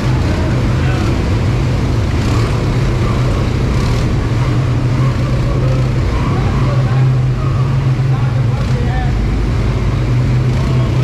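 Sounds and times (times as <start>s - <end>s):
atv engine running: 0.0s - 11.0s
riding noise: 0.0s - 11.0s.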